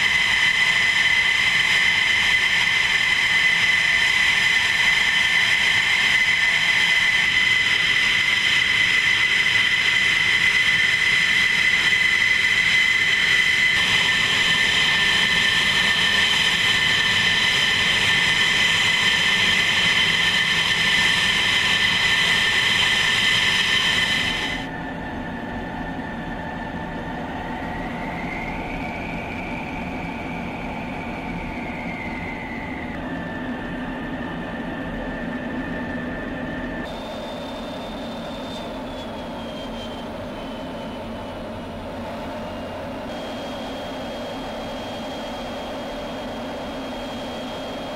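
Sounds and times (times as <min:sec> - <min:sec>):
jet engines running: 0:00.0 - 0:47.9.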